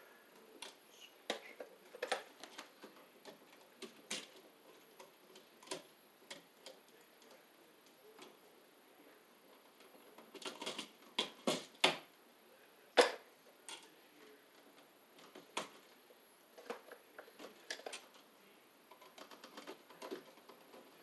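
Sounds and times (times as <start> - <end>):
wires clicking and tapping: 0.3 - 8.4, 9.4 - 12.1, 13.0 - 21.0.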